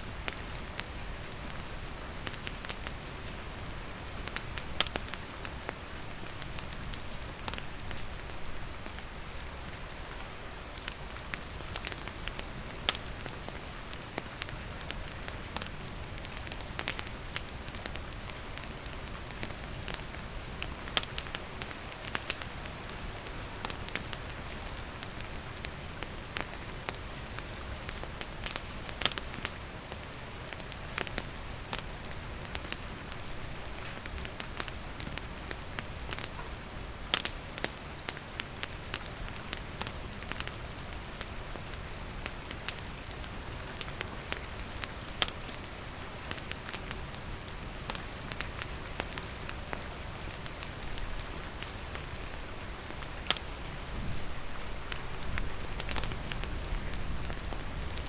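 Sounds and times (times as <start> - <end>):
campfire crackling: 0.0 - 58.0
steady rain falling: 0.0 - 58.0.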